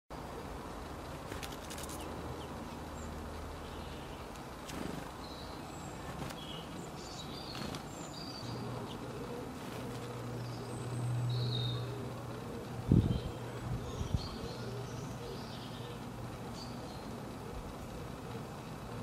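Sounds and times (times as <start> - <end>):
low steady hum: 0.1 - 19.0
small birds chirping: 0.2 - 19.0.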